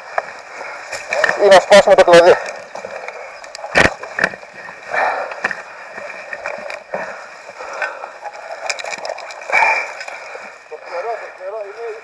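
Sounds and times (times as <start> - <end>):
tree branches rustling and scraping: 0.0 - 12.0.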